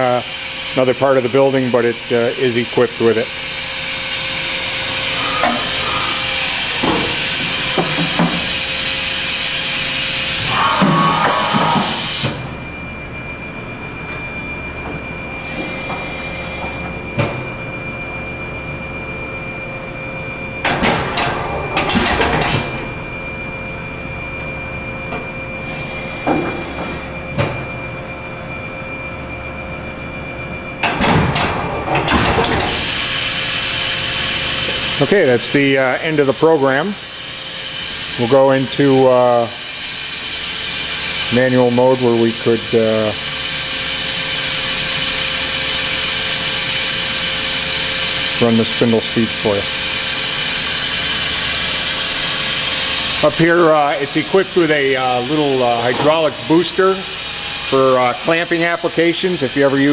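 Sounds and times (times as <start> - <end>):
machine spindle whine: 0.0 - 59.9.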